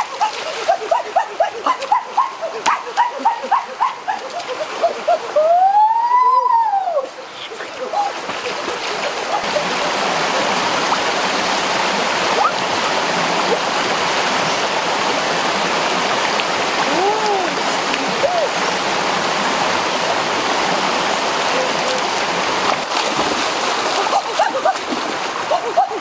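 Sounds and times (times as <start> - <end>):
stream rushing over stones: 0.0 - 26.0.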